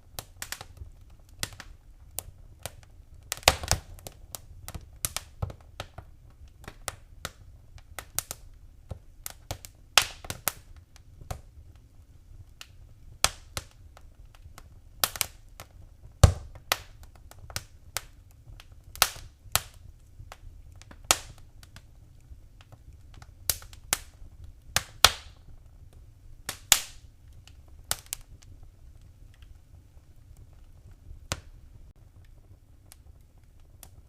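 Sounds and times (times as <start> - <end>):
fire crackling pops: 0.0 - 34.0
low fire rumble: 0.0 - 34.0.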